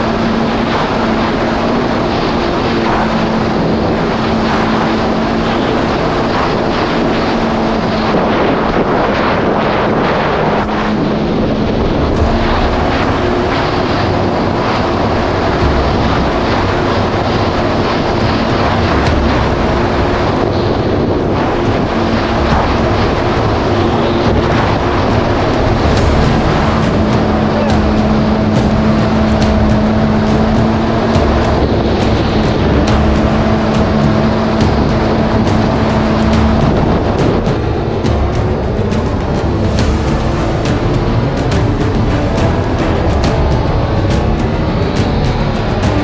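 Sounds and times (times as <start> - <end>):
jet ski engine running: 0.0 - 46.0
rush of wind and water: 0.0 - 46.0.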